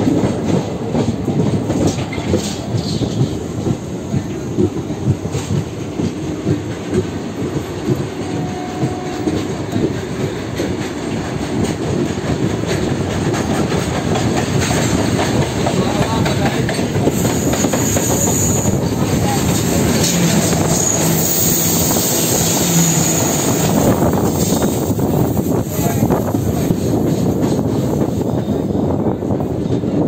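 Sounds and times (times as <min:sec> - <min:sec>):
freight train passing: 0:00.0 - 0:30.0
train wheels clattering on rails: 0:00.0 - 0:30.0.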